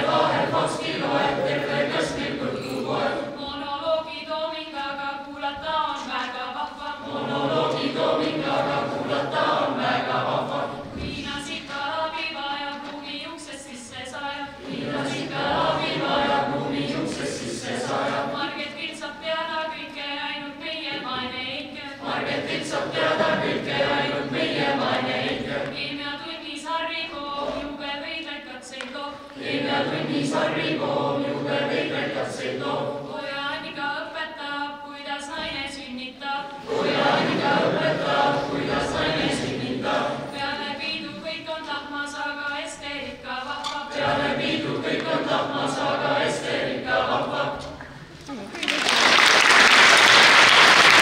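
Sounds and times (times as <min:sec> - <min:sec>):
children's choir singing unaccompanied: 0:00.0 - 0:48.2.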